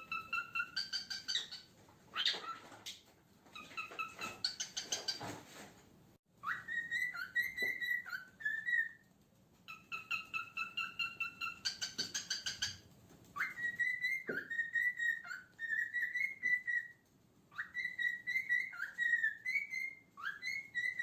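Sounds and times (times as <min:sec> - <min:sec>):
cockatiel whistling and chirping: 0:00.0 - 0:05.3, 0:06.4 - 0:21.0.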